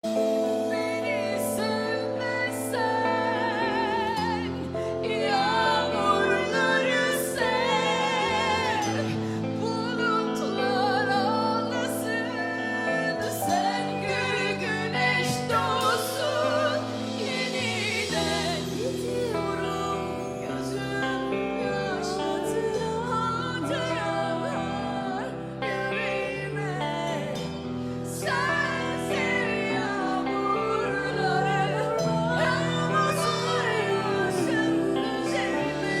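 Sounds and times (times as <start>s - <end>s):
instrumental backing of held notes: 0.0s - 36.0s
sustained chords: 0.0s - 36.0s
woman singing with vibrato: 0.0s - 36.0s.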